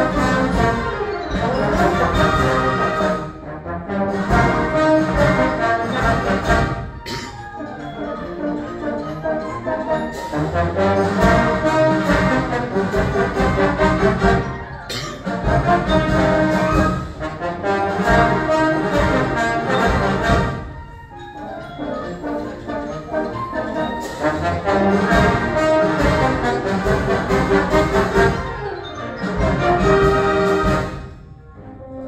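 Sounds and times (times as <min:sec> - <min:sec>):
percussion hits: 0:00.0 - 0:07.9, 0:10.0 - 0:21.2, 0:22.2 - 0:31.4
concert band playing: 0:00.0 - 0:31.4.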